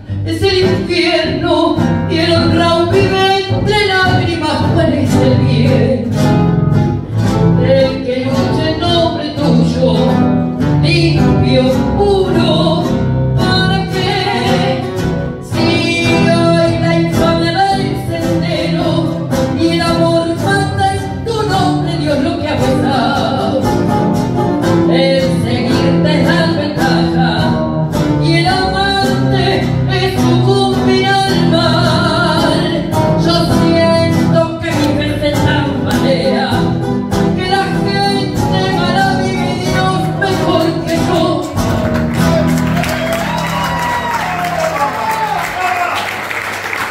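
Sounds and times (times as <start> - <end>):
woman singing into microphone: 0.0 - 6.4, 7.4 - 23.9, 24.7 - 41.6.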